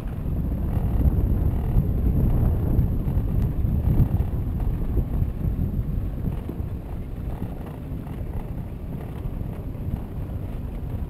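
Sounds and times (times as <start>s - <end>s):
pedal car rolling over tarmac: 0.0s - 11.0s
wind buffeting microphone: 0.0s - 11.0s.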